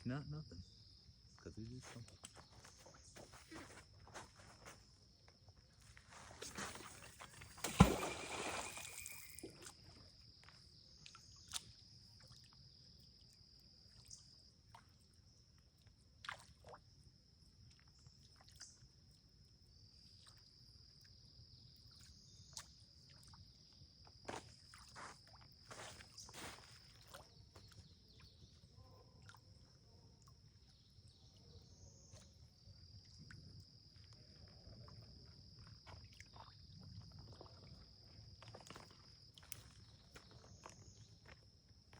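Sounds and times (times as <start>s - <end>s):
high-pitched insect trill: 0.0s - 15.7s, 16.8s - 29.0s, 30.6s - 41.9s.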